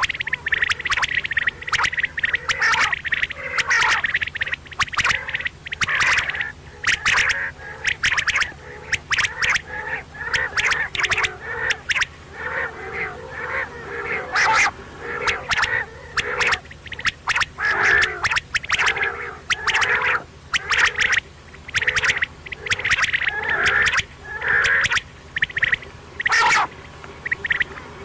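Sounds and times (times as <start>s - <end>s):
quail calling: 0.0s - 28.0s
steady low hum: 0.0s - 28.0s.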